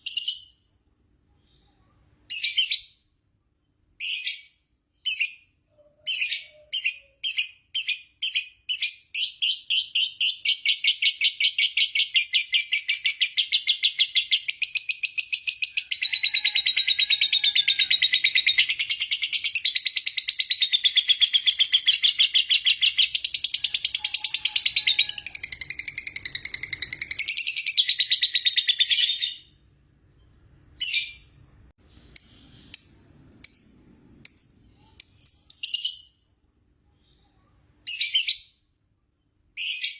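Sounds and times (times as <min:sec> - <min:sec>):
lovebird chirping and trilling: 0:00.0 - 0:00.6, 0:01.5 - 0:03.0, 0:04.0 - 0:29.6, 0:30.2 - 0:36.3, 0:37.8 - 0:38.6, 0:39.6 - 0:39.9.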